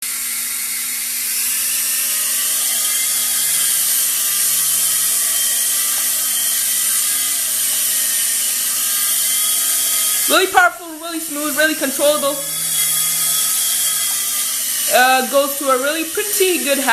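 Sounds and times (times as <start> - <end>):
toy helicopter rotors whining: 0.0 - 16.9.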